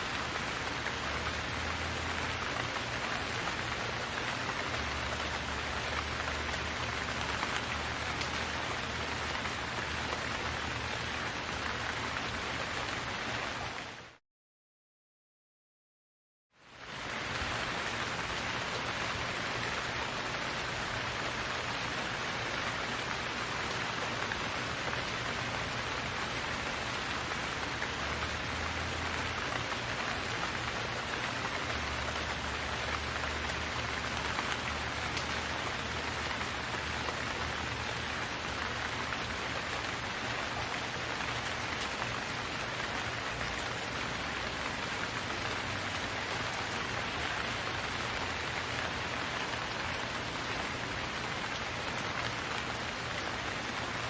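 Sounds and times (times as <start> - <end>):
rain on a hard surface: 0.0 - 14.2, 16.6 - 54.0.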